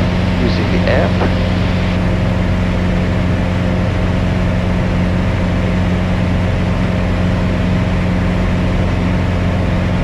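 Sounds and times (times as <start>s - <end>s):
airplane engine droning in cabin: 0.0s - 10.0s.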